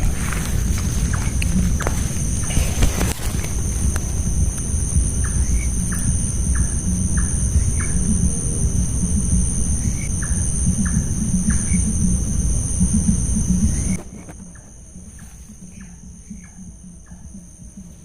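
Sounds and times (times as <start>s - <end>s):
loud low rumble: 0.0s - 17.1s
high-pitched insect drone: 0.0s - 18.0s.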